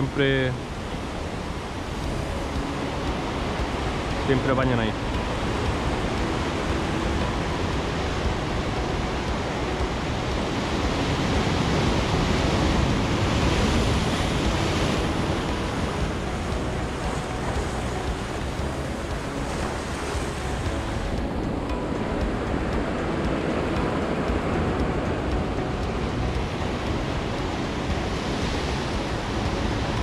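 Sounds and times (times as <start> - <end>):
surf breaking on rocky shore: 0.0 - 30.0
wind on microphone: 0.0 - 30.0.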